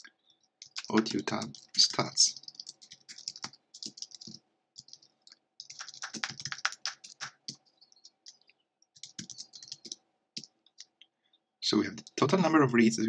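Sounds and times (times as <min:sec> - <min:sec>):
keyboard typing: 0:00.0 - 0:11.0, 0:11.9 - 0:12.4.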